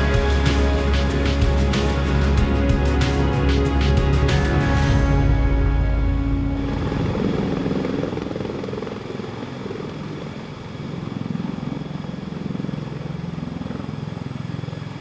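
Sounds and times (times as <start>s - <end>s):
helicopter rotors beating: 0.0s - 15.0s
turbine noise: 0.0s - 15.0s.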